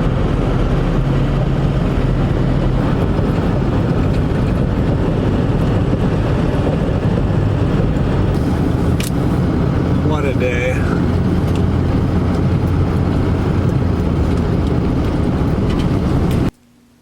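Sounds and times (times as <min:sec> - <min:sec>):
vehicle engine and road noise: 0:00.0 - 0:16.6.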